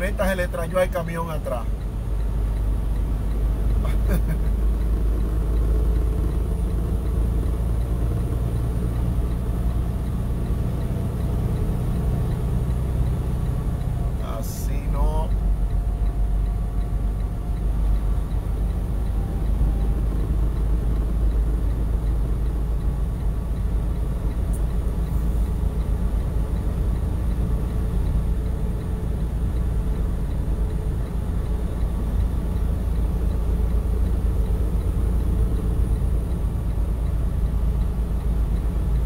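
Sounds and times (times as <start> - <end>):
truck engine and tyres droning: 0.0 - 39.0.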